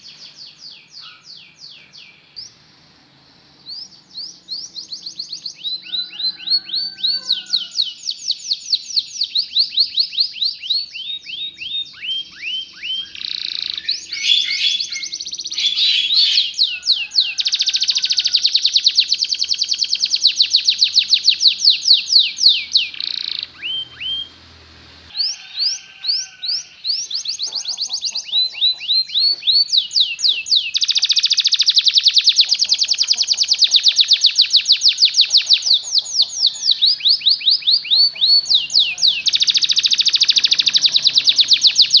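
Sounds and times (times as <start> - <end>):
canary singing trills: 0.0 - 2.7, 3.6 - 42.0.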